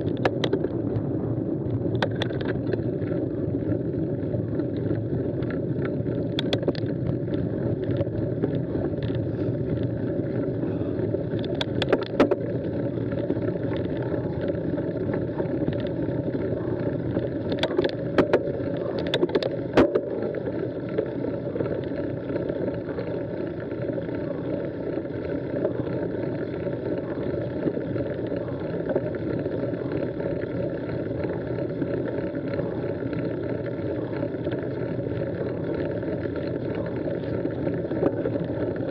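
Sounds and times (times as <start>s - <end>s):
bike clicks and rattles: 0.0s - 1.0s, 1.7s - 38.9s
bike tyres rumbling on gravel: 0.0s - 38.9s.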